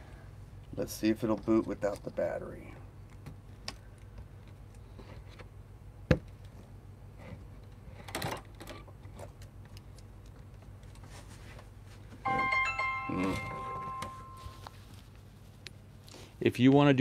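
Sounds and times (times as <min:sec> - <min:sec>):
low steady hum: 0:00.0 - 0:16.6.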